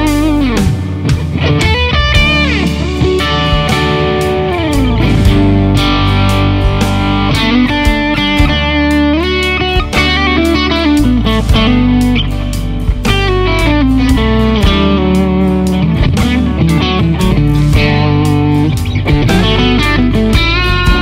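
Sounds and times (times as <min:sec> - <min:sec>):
clean electric guitar with chorus: 0:00.0 - 0:21.0.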